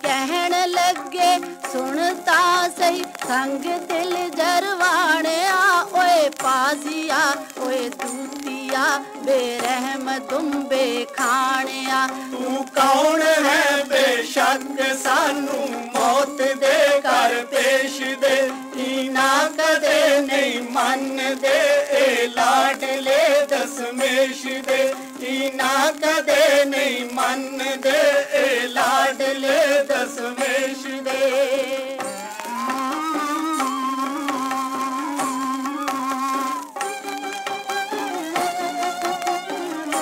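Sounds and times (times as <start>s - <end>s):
high voices singing devotional song: 0.0s - 36.9s
record surface crackle: 0.0s - 40.0s.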